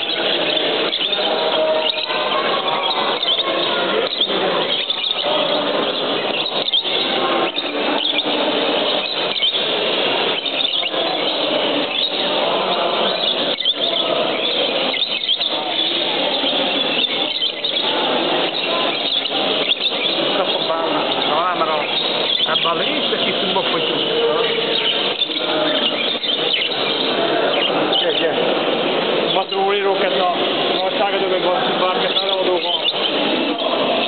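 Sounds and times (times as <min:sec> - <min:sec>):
budgerigars chattering and chirping: 0:00.0 - 0:34.0.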